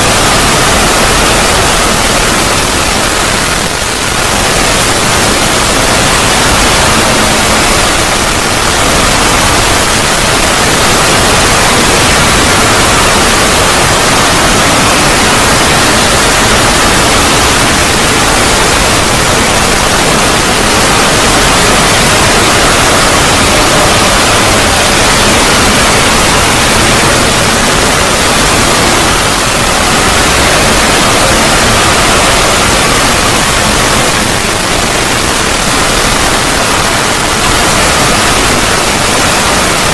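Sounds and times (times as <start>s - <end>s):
loud static-like hiss: 0.0s - 39.9s.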